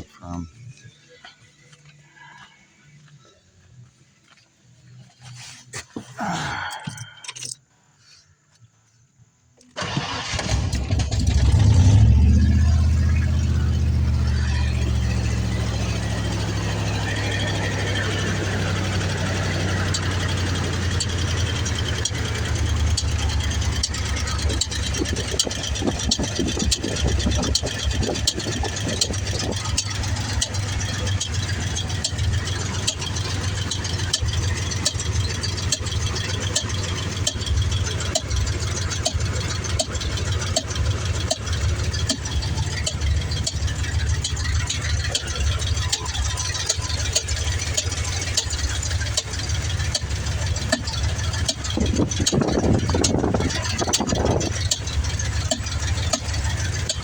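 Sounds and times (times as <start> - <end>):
engine idling: 9.5 - 57.0
engine ticking or popping: 9.6 - 57.0.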